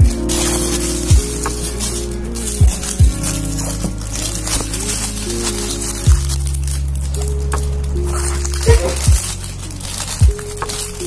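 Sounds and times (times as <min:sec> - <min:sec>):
lofi hip-hop music: 0:00.0 - 0:11.0.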